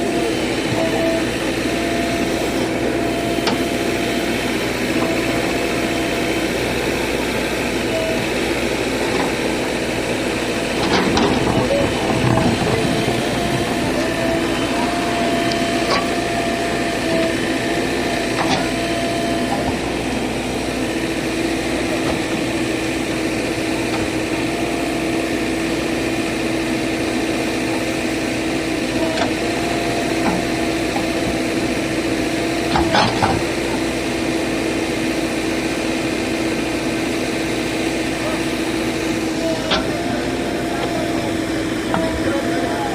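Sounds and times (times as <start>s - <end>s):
earth-moving machine engine: 0.0s - 42.9s.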